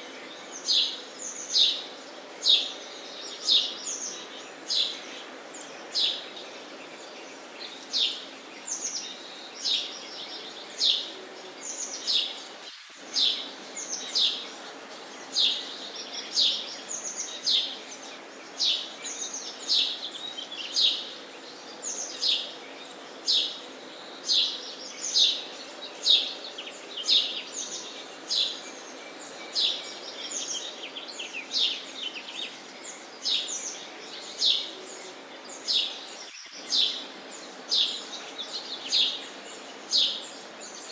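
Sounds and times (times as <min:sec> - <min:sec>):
low background noise: 0:00.0 - 0:40.9
sparrows chirping: 0:00.0 - 0:40.9.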